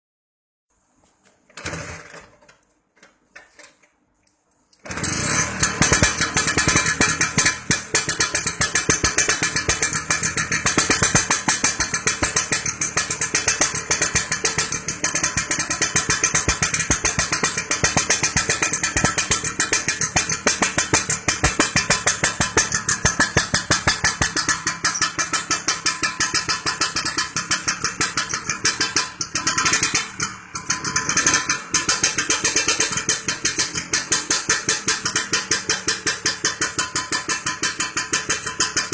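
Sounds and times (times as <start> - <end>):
scooter engine running: 4.8 - 38.9.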